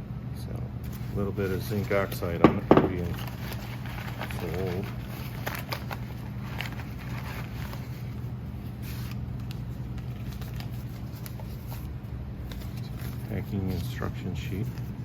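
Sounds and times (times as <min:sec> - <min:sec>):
steady low hum: 0:00.0 - 0:15.0
paper and cardboard rustling: 0:00.8 - 0:15.0.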